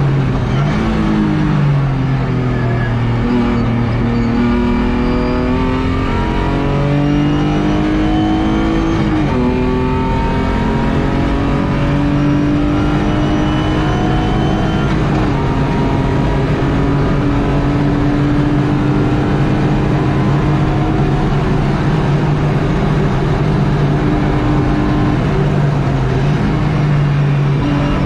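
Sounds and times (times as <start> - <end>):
car engine pulling at high revs: 0.0 - 28.0.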